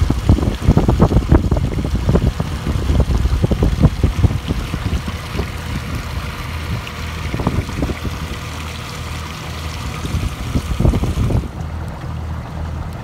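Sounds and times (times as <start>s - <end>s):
steady low hum: 0.0s - 13.0s
water rushing and splashing: 0.0s - 13.0s.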